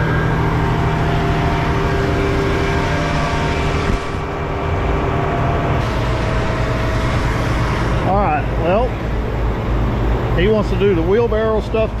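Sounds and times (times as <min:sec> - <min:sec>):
heavy diesel engines rumbling: 0:00.0 - 0:12.0
steady whine: 0:00.0 - 0:12.0.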